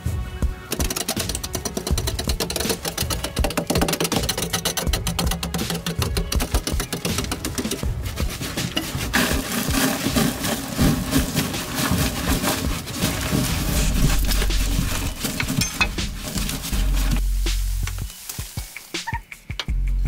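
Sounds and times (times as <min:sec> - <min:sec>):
hand tools scraping earth: 0:00.6 - 0:19.2.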